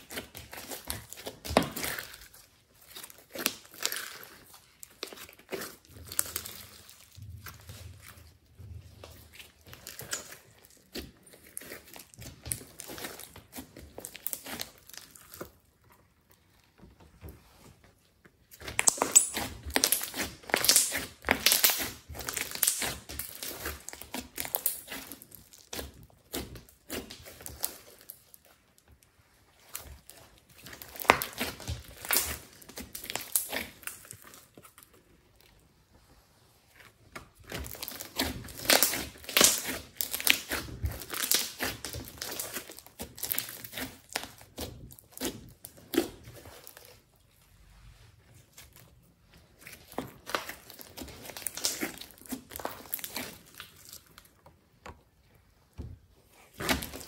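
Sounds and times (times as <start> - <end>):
slime crackling and popping: 0.0 - 15.7, 18.5 - 28.9, 29.6 - 34.9, 37.1 - 47.1, 48.5 - 54.5, 56.3 - 57.0.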